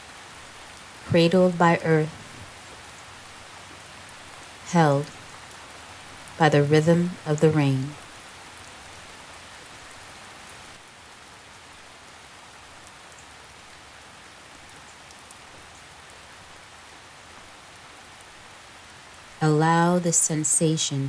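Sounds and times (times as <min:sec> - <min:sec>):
rain falling on leaves: 0:00.0 - 0:19.4.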